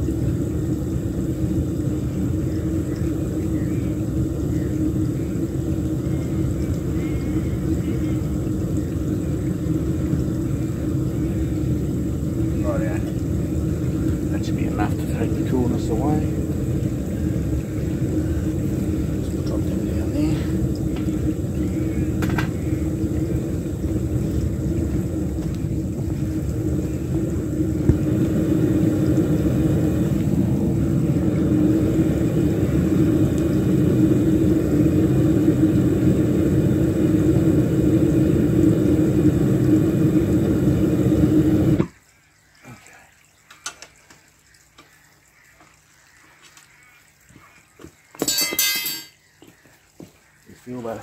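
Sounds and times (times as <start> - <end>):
furnace burner roaring: 0.0 - 42.0, 48.2 - 51.0.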